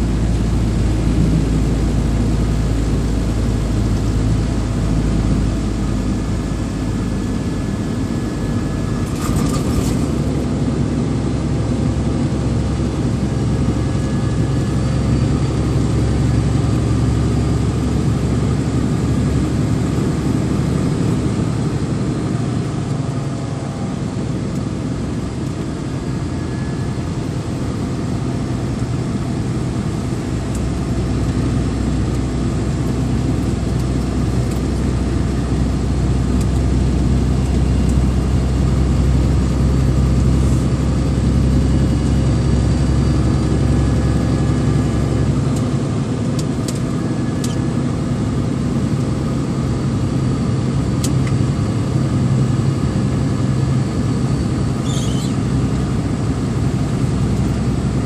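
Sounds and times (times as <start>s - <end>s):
vehicle engine drone: 0.0s - 58.0s.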